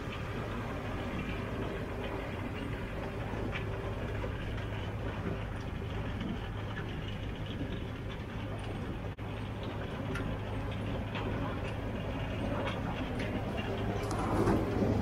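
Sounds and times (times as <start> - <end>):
constant low hum: 0.0 - 15.0
harvester mechanical rumble: 0.0 - 15.0
light clatter: 1.2 - 15.0.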